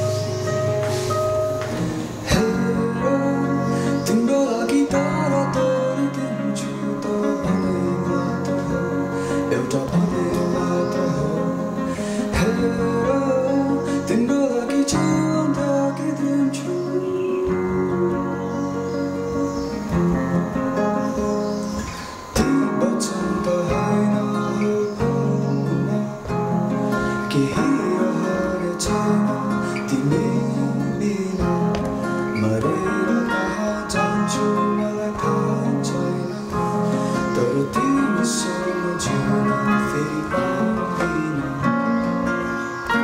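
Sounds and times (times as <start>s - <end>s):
acoustic guitars plucked and strummed: 0.0s - 43.0s
electronic keyboard chords: 0.0s - 43.0s
man singing: 2.1s - 19.3s, 19.9s - 43.0s.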